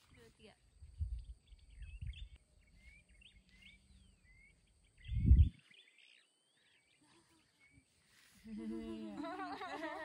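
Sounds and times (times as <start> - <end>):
small birds chirping: 0.1 - 8.5.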